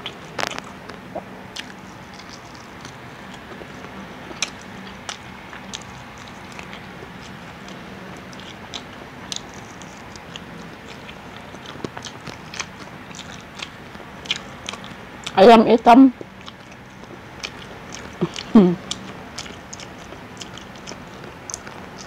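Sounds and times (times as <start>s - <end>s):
person biting and chewing: 0.0s - 15.4s, 16.2s - 22.0s.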